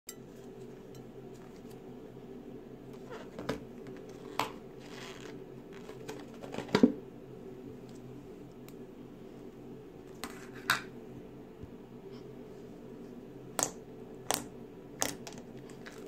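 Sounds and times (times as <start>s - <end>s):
steady low hum: 0.1s - 16.0s.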